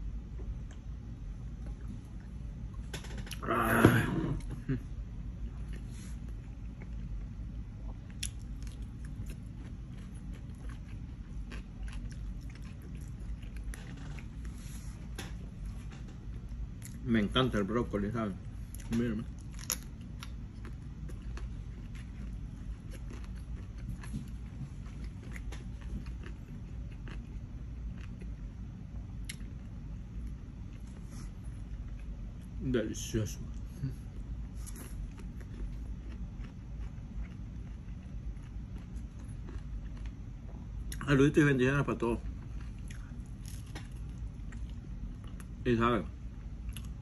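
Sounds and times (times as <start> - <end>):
man chewing food: 0.0 - 3.4, 4.3 - 17.1, 18.4 - 32.6, 33.4 - 41.1, 42.2 - 45.6, 46.2 - 47.0
low steady hum: 0.0 - 47.0.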